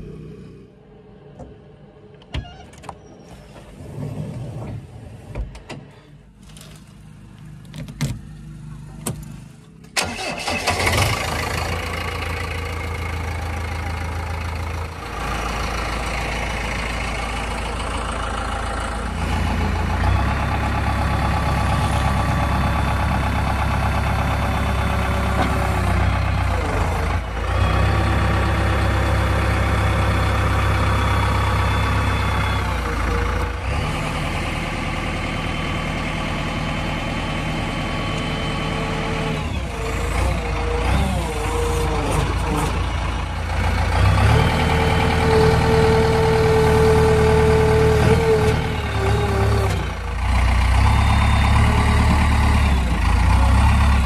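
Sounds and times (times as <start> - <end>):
diesel engine running: 3.4 - 54.0.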